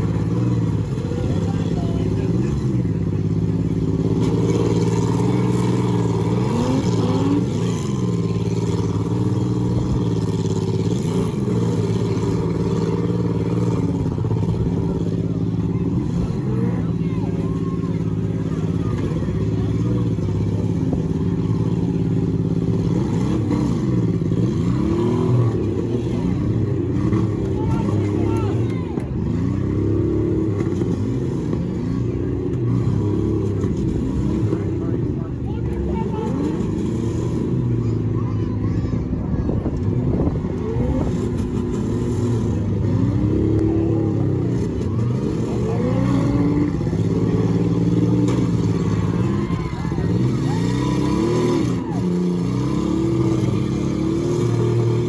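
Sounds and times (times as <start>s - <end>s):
car engines running rough: 0.0s - 55.0s.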